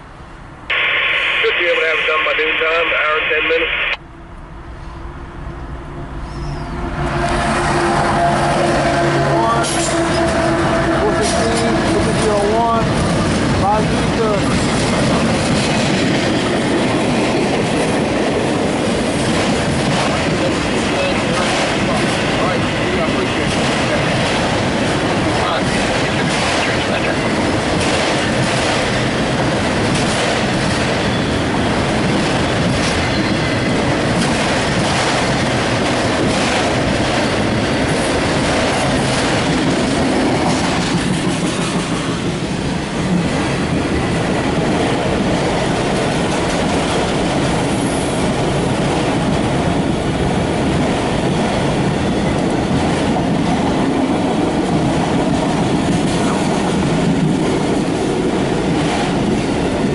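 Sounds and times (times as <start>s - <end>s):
freight cars rumbling on rails: 2.1s - 59.9s
rail joints clickety-clack: 6.1s - 59.9s.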